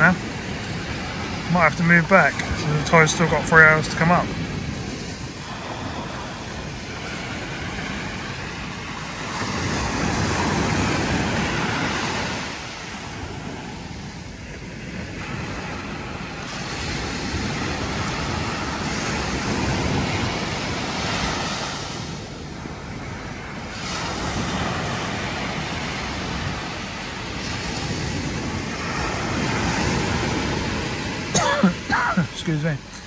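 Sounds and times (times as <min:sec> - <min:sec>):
sea waves breaking on a beach: 0:00.0 - 0:33.0.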